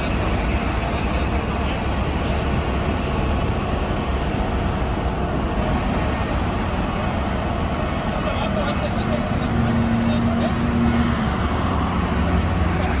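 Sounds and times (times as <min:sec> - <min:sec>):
diesel machinery engine rumble: 0:00.0 - 0:13.0.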